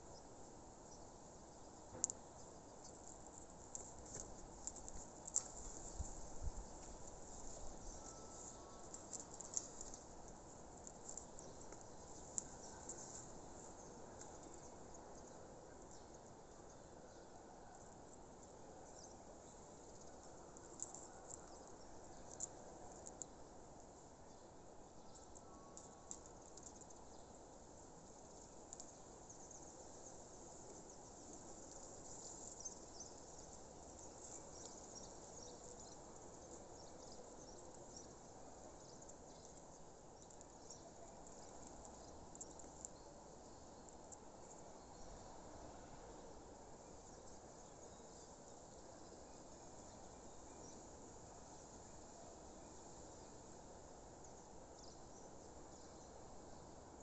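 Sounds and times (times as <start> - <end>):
steady low hiss: 0.0 - 57.0.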